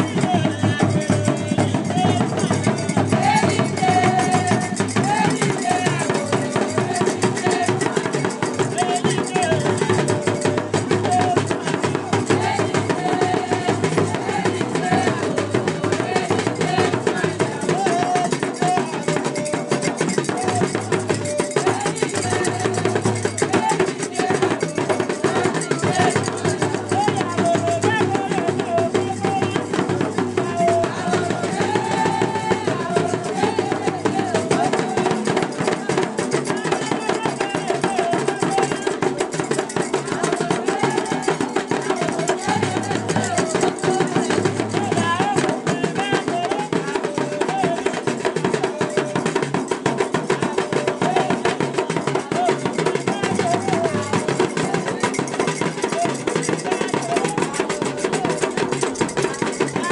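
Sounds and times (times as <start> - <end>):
hand drums drumming: 0.0 - 59.9
women singing: 0.0 - 59.9.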